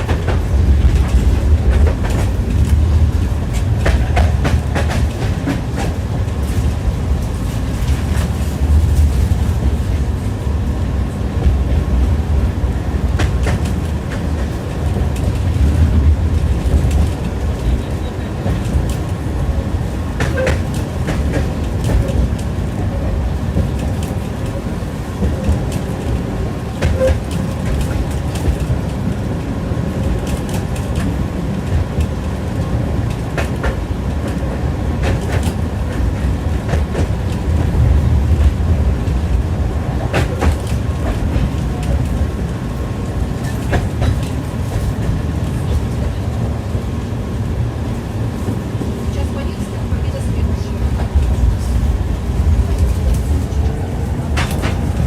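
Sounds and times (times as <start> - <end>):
tram running low rumble: 0.0 - 55.0.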